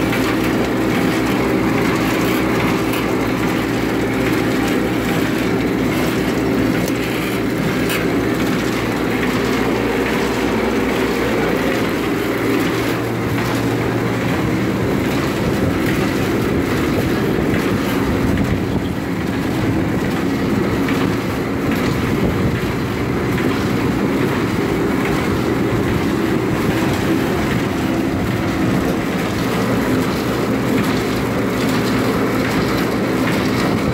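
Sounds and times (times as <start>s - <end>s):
packing machine hum and clatter: 0.0s - 33.9s.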